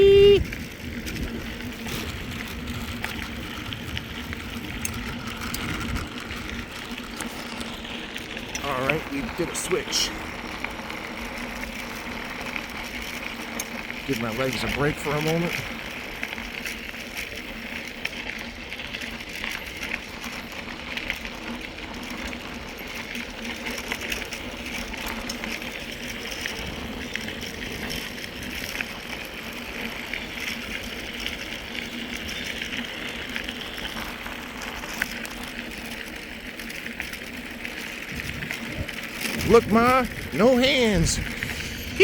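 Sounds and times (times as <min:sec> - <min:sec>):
bicycle freewheel ticking: 0:00.0 - 0:42.0
tyres rolling on trail: 0:00.0 - 0:42.0.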